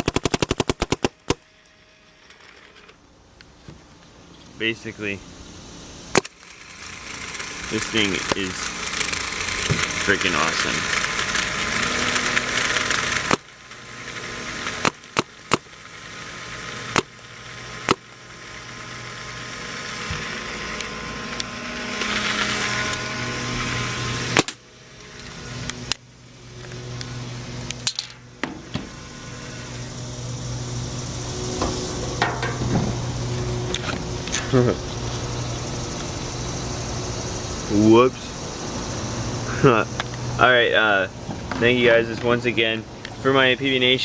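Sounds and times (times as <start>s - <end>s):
low background hum: 0.0s - 44.0s.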